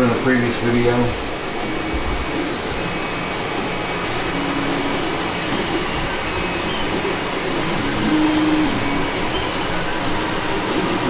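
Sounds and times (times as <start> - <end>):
fan whir: 0.0 - 11.0
whining tones: 0.0 - 11.0.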